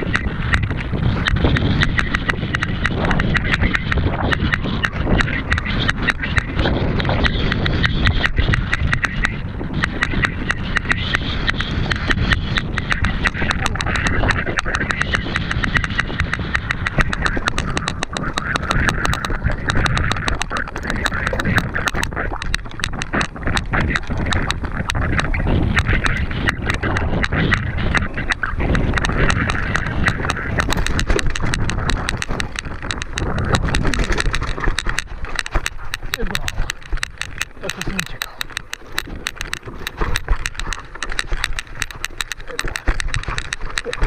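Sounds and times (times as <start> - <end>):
bike knocks and rattles: 0.0 - 44.0.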